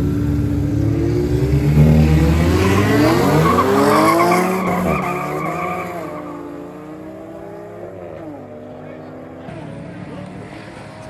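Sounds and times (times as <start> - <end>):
drag race cars accelerating: 0.0 - 11.0.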